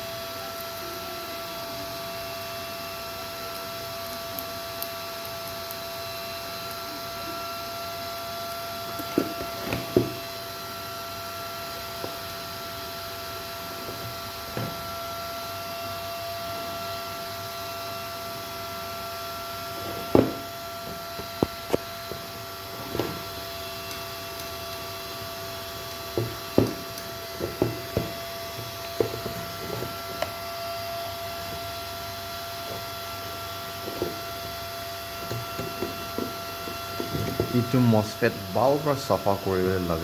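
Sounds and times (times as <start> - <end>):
steady hum with high tones: 0.0 - 40.0.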